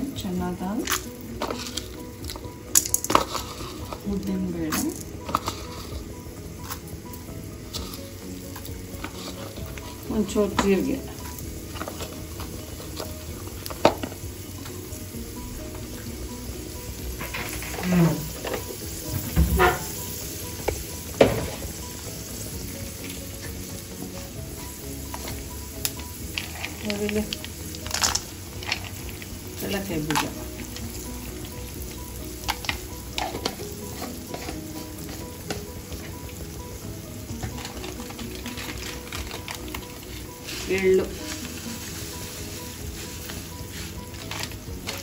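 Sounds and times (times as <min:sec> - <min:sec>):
hot oil sizzling: 0:00.0 - 0:45.0.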